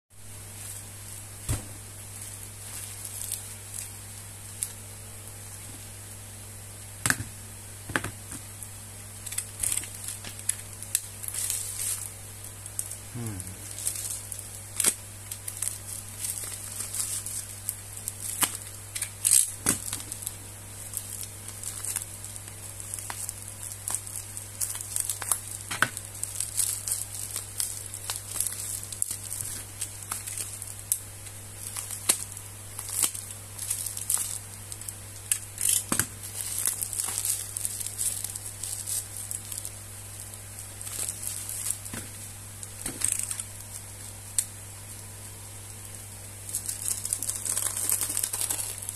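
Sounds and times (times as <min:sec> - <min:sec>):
steady low hum: 0:00.2 - 0:48.9
plastic and tape crinkling and tearing: 0:00.4 - 0:05.8, 0:08.1 - 0:48.9.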